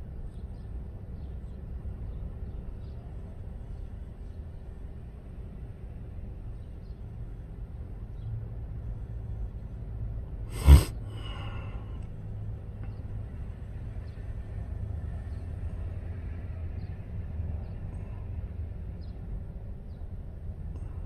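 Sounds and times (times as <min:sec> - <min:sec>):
vehicles rumbling in parking lot: 0:00.0 - 0:21.0.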